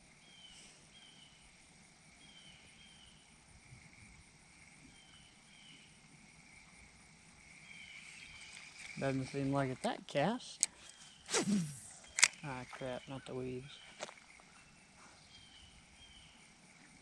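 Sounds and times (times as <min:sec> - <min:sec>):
faint insect drone: 0:00.0 - 0:17.0.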